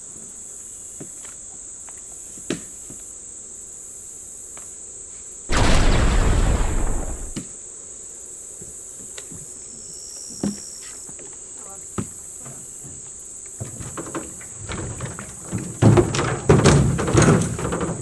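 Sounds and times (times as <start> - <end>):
insect chorus: 0.0 - 18.0.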